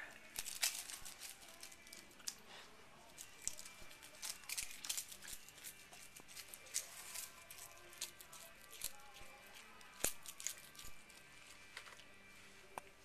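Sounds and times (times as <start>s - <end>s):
cat chewing seaweed: 0.1s - 2.4s, 3.1s - 11.9s.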